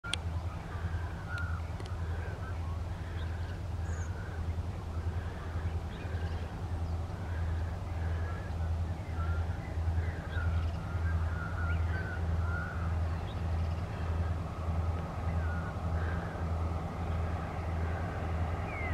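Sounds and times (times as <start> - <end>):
birds calling: 0.0 - 18.9
distant locomotive engine drone: 0.0 - 18.9.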